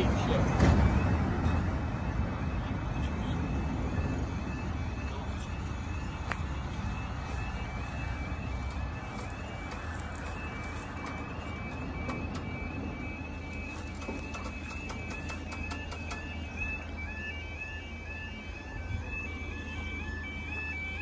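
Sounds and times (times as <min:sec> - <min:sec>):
level crossing alarm beeps: 0:00.0 - 0:21.0
lower alarm tone: 0:00.0 - 0:21.0
road vehicle rumble: 0:00.0 - 0:21.0.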